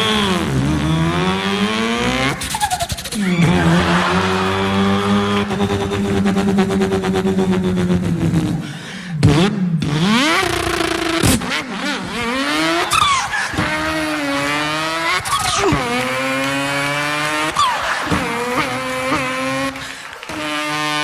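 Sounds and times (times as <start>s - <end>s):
man imitating car engine: 0.0s - 21.0s.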